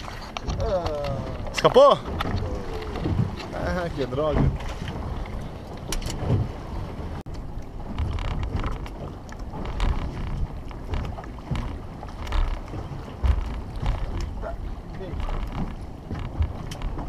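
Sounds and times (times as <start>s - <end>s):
water splashing against boat hull: 0.0s - 17.0s
wind buffeting microphone: 0.0s - 17.0s.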